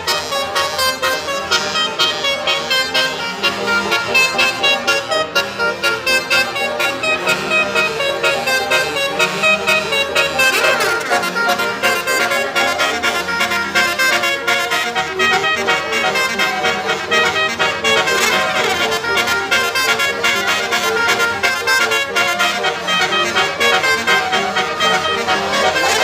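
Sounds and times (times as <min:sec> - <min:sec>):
music with brassy horn melody: 0:00.0 - 0:26.0.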